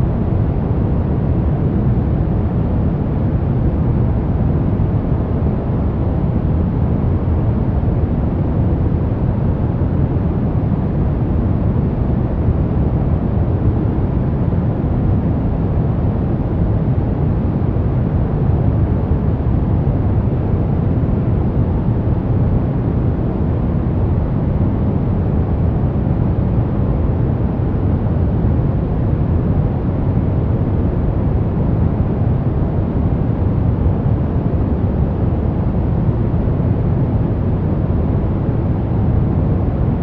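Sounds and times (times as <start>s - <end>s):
deep even white noise: 0.0s - 40.0s.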